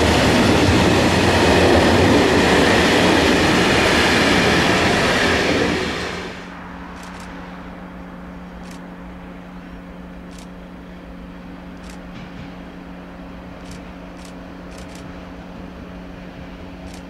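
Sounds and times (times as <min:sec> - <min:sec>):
steady low hum: 0:00.0 - 0:17.0
train wheels rumbling on rails: 0:00.0 - 0:17.0.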